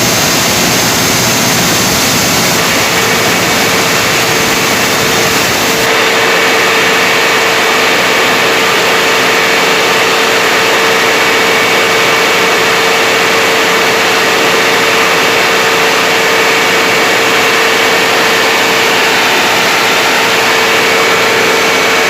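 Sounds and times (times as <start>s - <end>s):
generator engine and fan noise: 0.0s - 22.0s
steady whine: 0.0s - 22.0s.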